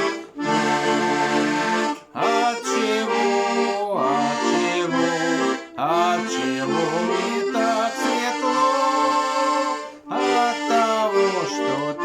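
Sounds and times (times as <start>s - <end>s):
accordion playing: 0.0s - 12.0s.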